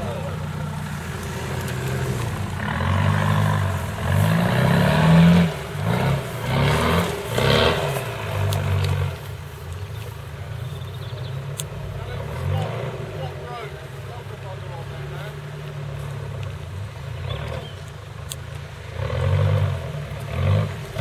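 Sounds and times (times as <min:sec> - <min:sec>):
engine revving: 0:00.0 - 0:09.5, 0:10.9 - 0:21.0.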